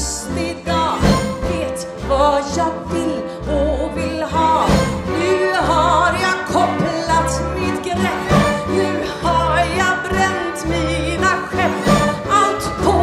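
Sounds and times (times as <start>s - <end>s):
woman singing: 0.0s - 13.0s
live band playing: 0.7s - 3.1s, 4.3s - 13.0s.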